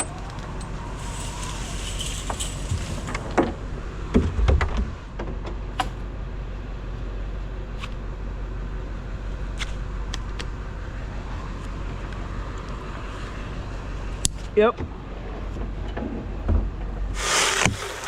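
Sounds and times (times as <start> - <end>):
truck engine running: 0.0 - 15.8.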